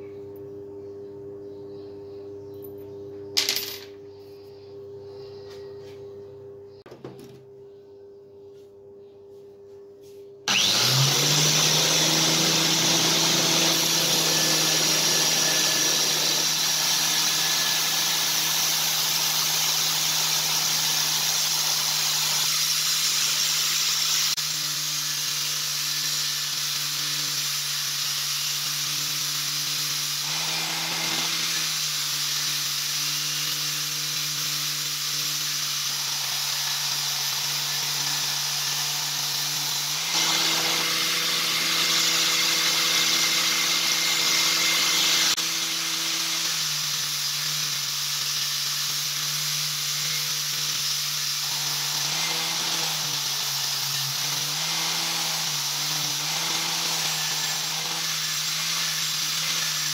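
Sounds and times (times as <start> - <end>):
belt grinder motor humming: 10.5 - 59.9
blade grinding on belt: 10.5 - 59.9.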